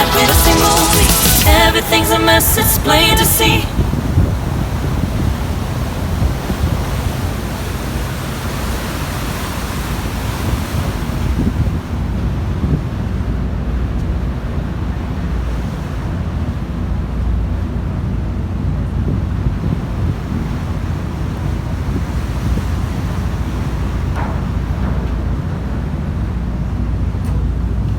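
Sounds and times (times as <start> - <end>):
sea water rushing: 0.0 - 27.1
wind buffeting microphone: 3.0 - 27.9.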